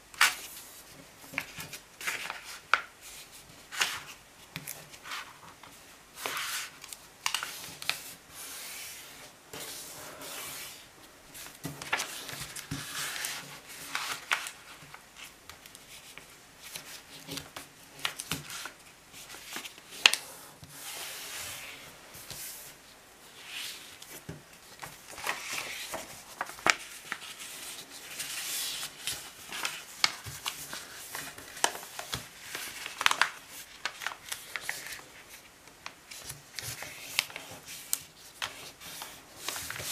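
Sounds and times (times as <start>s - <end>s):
paper rustling and swishing: 0.2s - 35.5s, 36.1s - 39.9s.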